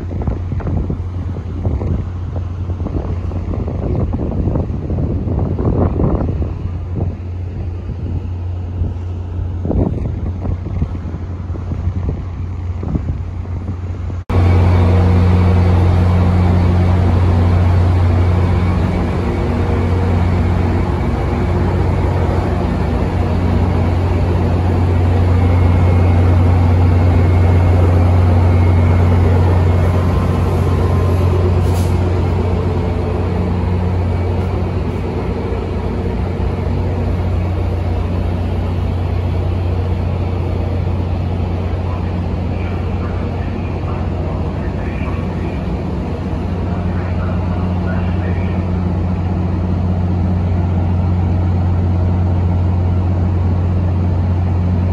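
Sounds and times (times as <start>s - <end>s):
wind buffeting microphone: 0.0s - 48.1s
locomotive engine droning: 0.0s - 54.9s
low hum: 0.0s - 54.9s.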